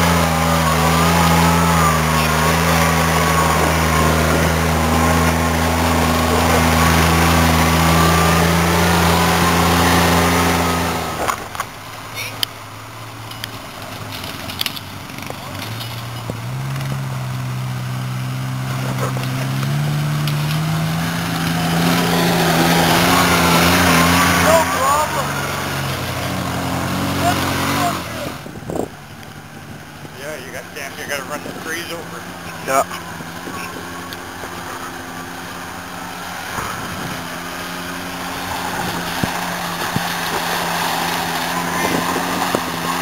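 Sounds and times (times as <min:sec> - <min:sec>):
diesel engine revving: 0:00.0 - 0:43.0
water splashing: 0:00.0 - 0:43.0.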